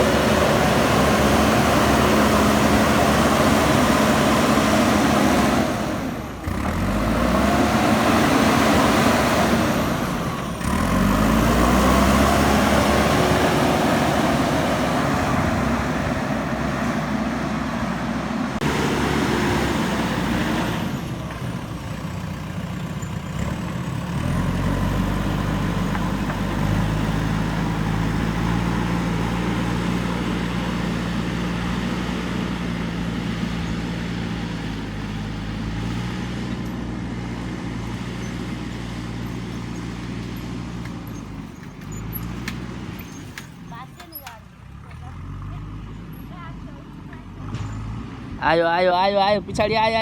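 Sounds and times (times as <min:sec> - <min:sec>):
diesel engine running under work: 0:00.0 - 0:50.0.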